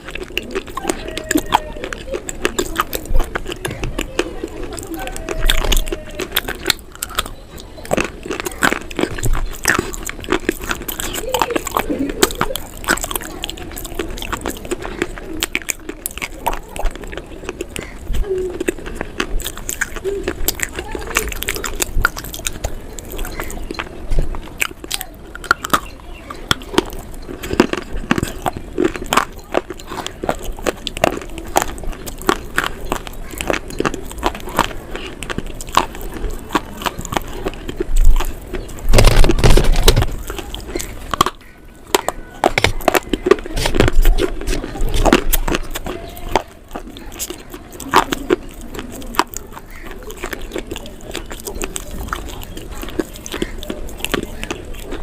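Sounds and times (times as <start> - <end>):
crunching and chewing: 0.0 - 55.0.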